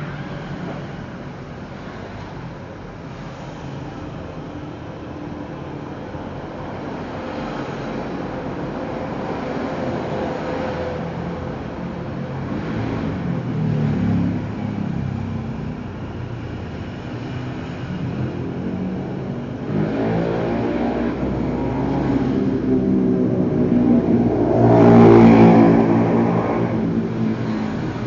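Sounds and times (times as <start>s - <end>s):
vehicle engines passing by: 0.0s - 28.0s.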